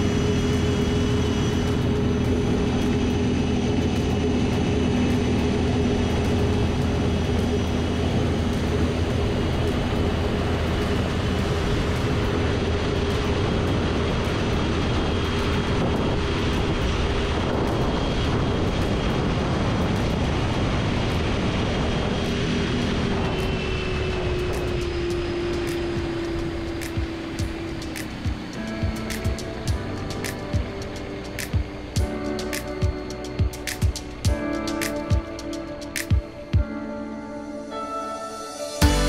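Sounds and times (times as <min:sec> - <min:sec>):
electric boat motor whine: 0:00.0 - 0:32.0
wind noise: 0:00.0 - 0:36.9.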